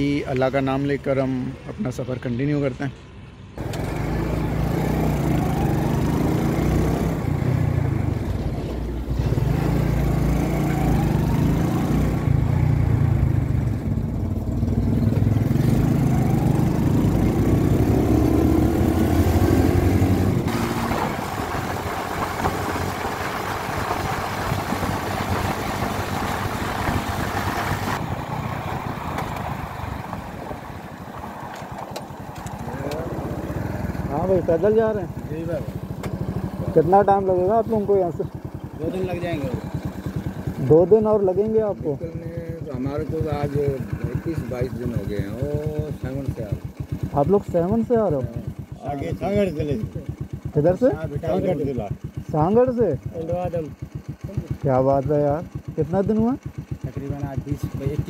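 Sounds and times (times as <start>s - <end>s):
motorcycle engine running: 3.6s - 58.0s.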